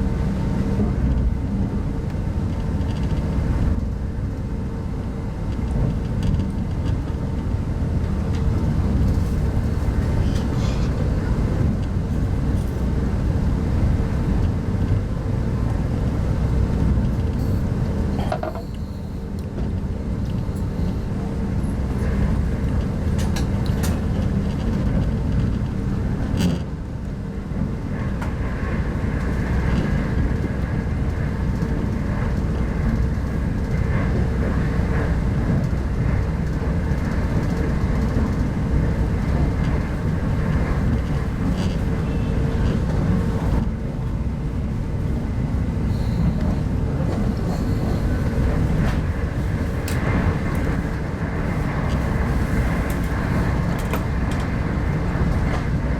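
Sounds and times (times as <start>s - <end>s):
constant hum: 0.0s - 55.9s
train wheels rumbling on rails: 0.0s - 55.9s.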